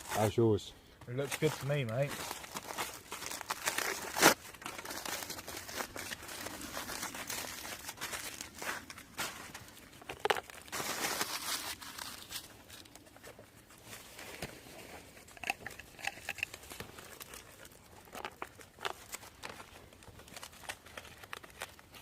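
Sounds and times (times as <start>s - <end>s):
foil crinkling and tearing: 0.0s - 0.4s, 1.1s - 22.0s.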